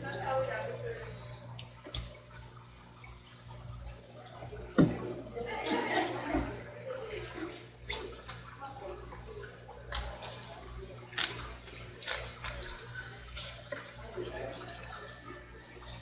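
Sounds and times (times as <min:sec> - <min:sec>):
running splashing water: 0:00.0 - 0:16.0.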